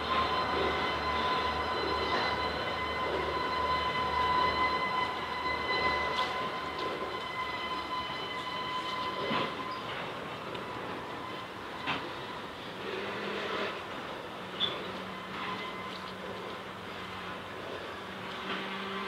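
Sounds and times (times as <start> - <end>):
freight train rumbling with high whine: 0.0 - 19.0.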